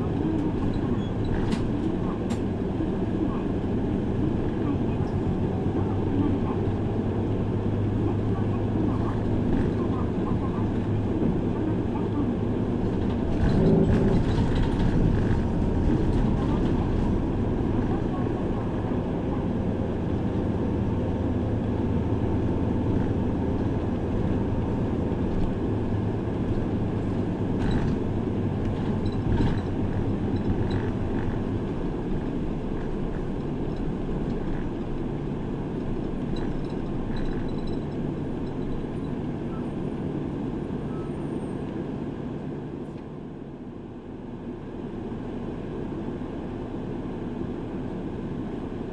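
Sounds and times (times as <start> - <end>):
bus engine and road noise: 0.0 - 48.9.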